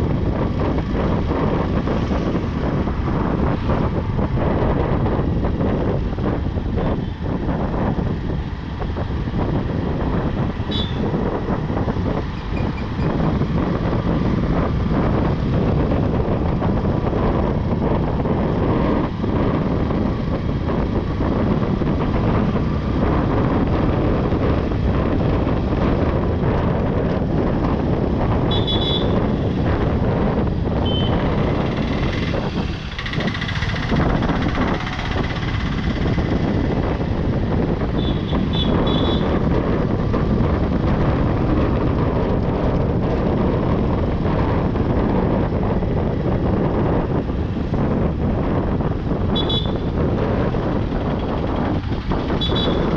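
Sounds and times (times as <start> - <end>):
wind and road noise: 0.0 - 52.9.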